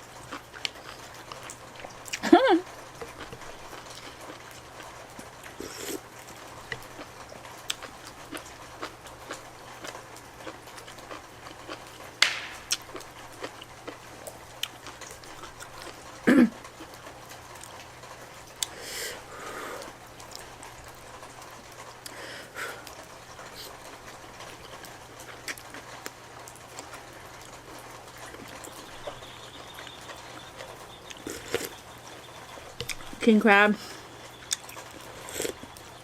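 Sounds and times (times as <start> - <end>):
chewing noodles: 0.0 - 33.2, 33.8 - 36.0.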